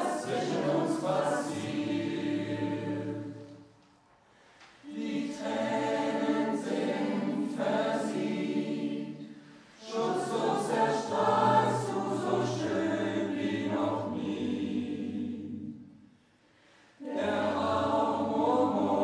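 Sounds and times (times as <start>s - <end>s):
choir singing a cappella: 0.0s - 3.8s, 4.8s - 16.2s, 16.8s - 19.0s.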